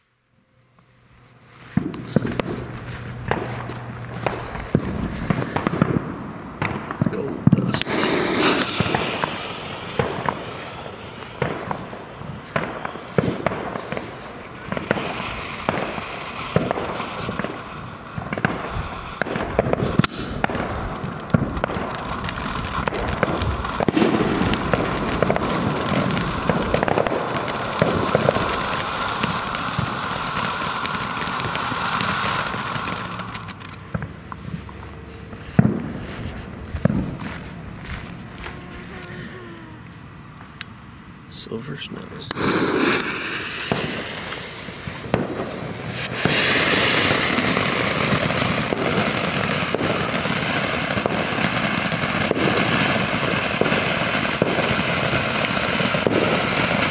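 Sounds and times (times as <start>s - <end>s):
crackles and pops: 0.8s - 6.0s, 6.6s - 40.8s, 42.0s - 56.9s
firework fountain hissing: 0.8s - 56.9s.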